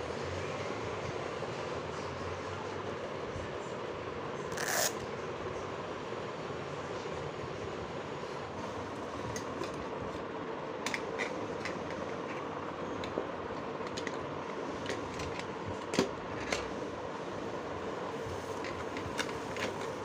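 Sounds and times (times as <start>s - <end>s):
steady fan-like hum: 0.0s - 20.0s.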